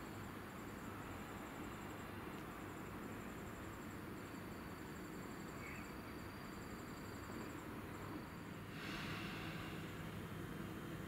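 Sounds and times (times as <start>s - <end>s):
insect chirping: 0.0s - 10.2s
faint high whine: 0.0s - 11.0s.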